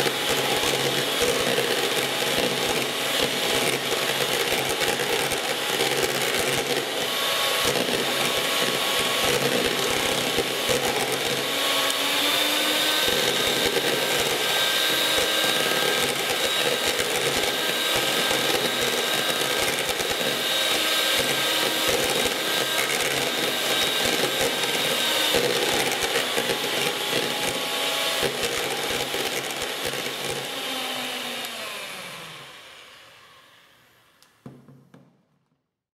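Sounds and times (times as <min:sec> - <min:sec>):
beaters churning cream in bowl: 0:00.0 - 0:32.2
hand mixer motor whine: 0:00.0 - 0:34.2.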